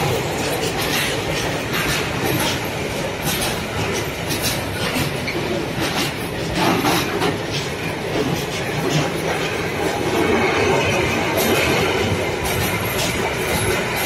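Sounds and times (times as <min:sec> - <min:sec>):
train wheels rumbling on rail: 0:00.0 - 0:14.0
wheels clacking over track joints: 0:00.0 - 0:14.0.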